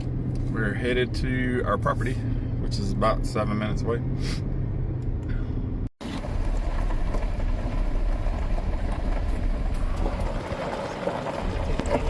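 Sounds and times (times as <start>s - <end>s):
road and engine noise: 0.0s - 12.0s.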